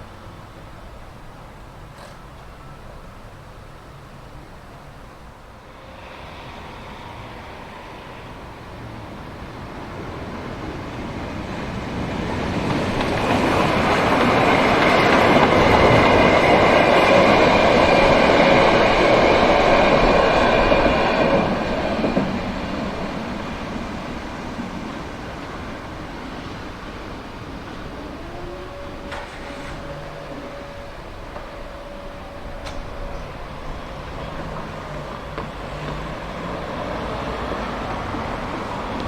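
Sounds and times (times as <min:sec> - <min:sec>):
train passing: 0:00.0 - 0:39.0.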